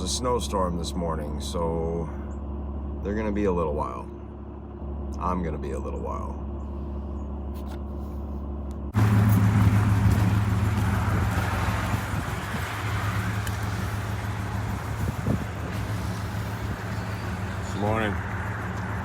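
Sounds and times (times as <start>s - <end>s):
vehicle engine running: 0.0s - 19.0s
loud engine drone: 0.6s - 19.0s.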